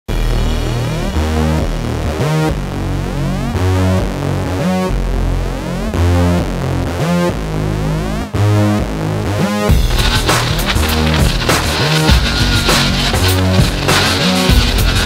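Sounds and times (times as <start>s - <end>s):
electronic synthesizer music: 0.1s - 15.0s
steady bass: 0.1s - 15.0s.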